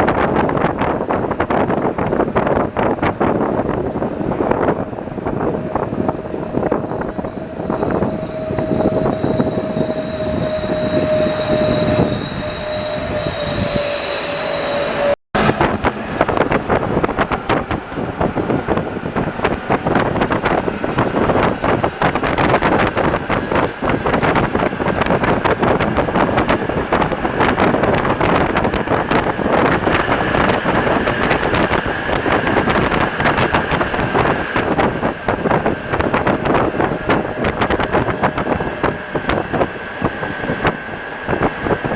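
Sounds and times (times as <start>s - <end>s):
electric traction whine: 0.0s - 41.9s.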